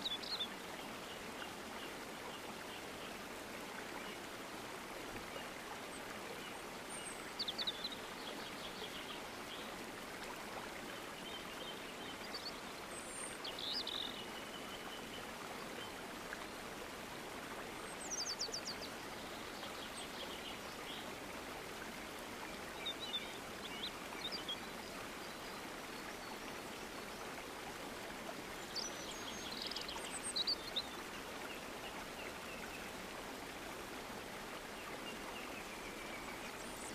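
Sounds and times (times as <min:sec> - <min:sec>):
running water rushing: 0:00.0 - 0:36.9.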